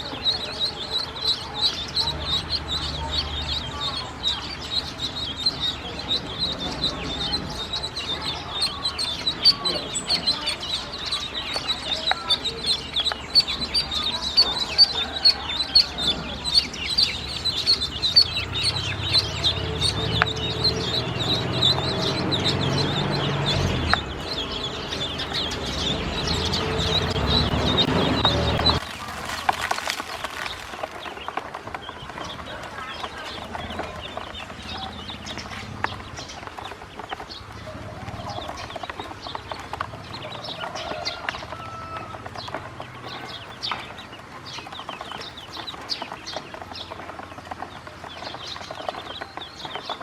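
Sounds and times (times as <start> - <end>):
ducklings peeping: 0.0 - 50.0.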